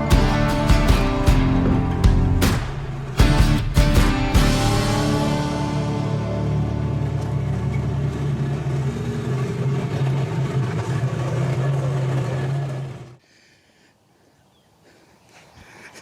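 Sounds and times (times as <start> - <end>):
engine humming: 0.0 - 13.2.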